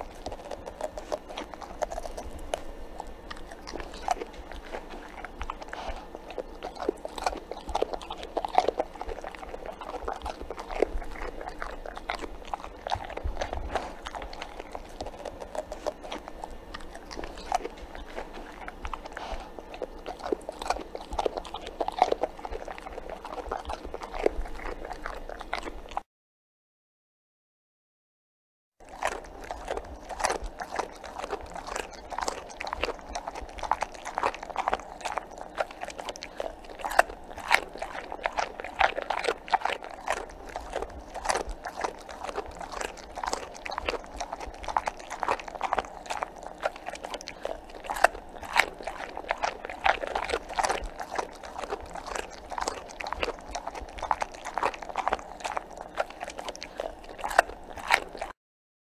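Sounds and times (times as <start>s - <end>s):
dog chewing and crunching: 0.0s - 26.0s, 28.8s - 58.4s.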